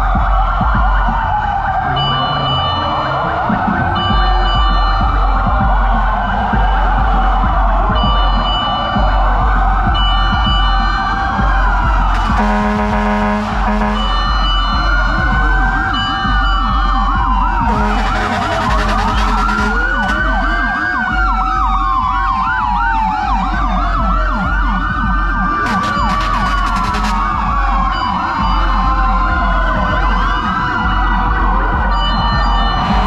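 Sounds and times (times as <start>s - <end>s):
sirens wailing and yelping: 0.0s - 33.0s.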